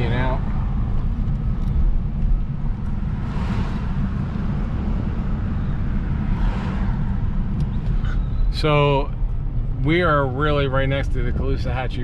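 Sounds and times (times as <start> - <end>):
road traffic rumble: 0.0 - 12.0
vehicles passing by: 0.0 - 12.0.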